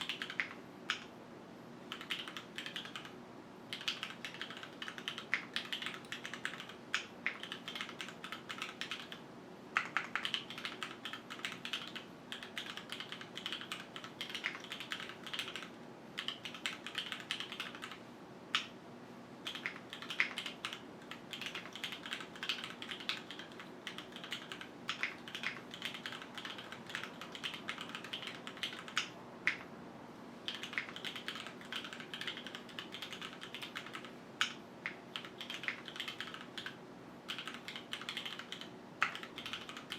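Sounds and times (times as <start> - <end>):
mechanical keyboard typing: 0.0 - 1.1, 1.9 - 9.2, 9.8 - 18.7, 19.4 - 29.7, 30.5 - 39.9.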